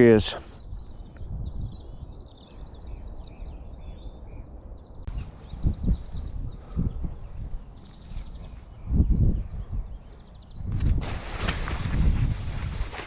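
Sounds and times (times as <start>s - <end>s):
small birds singing and chirping: 0.0s - 13.0s.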